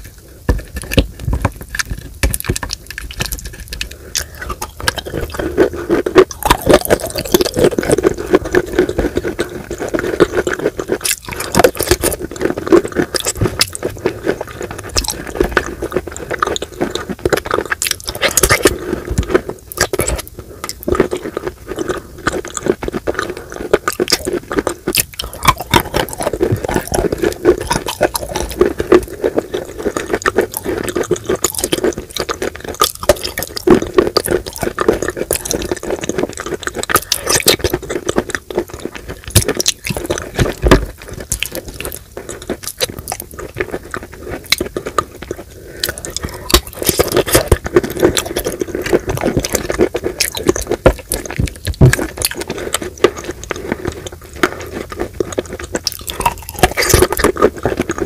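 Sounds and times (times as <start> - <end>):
chewing with wet crunching: 0.0 - 58.0.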